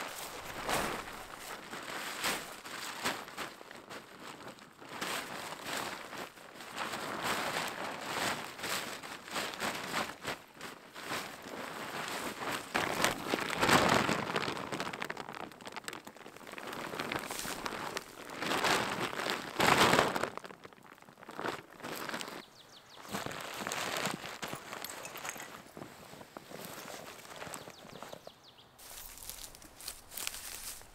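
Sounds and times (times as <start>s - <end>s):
tent fabric rustling and crinkling: 0.0s - 30.9s.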